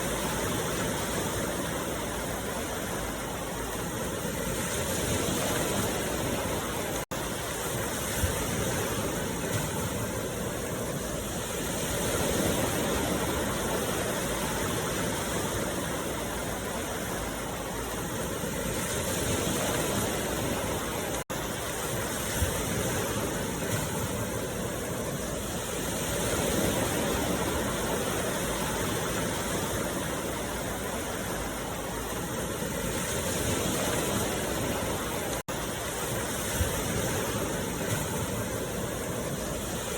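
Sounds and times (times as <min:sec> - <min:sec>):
continuous rushing noise: 0:00.0 - 0:39.9.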